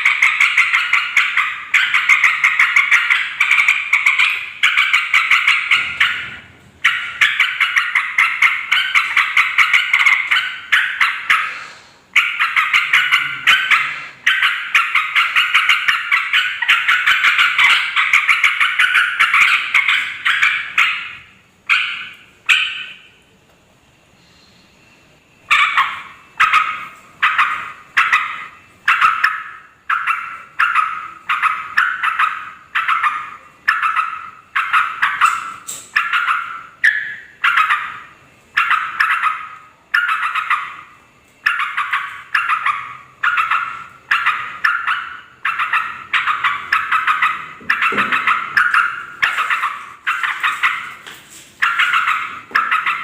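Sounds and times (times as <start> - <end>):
bulbuls chattering: 0.0 - 23.1, 25.5 - 53.0.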